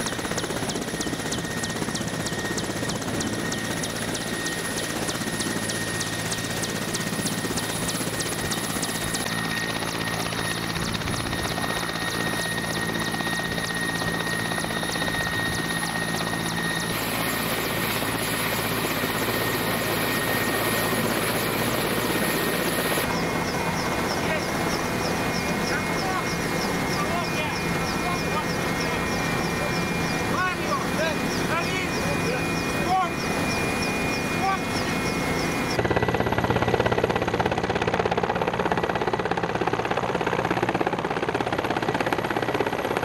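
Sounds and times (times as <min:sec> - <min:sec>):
helicopter rotor noise: 0:00.0 - 0:43.0
helicopter turbine whine: 0:00.0 - 0:43.0.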